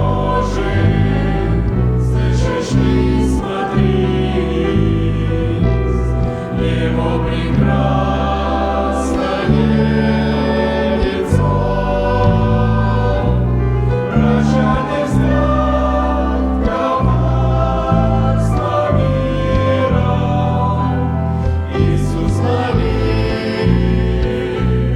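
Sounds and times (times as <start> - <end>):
choir singing: 0.0 - 24.9.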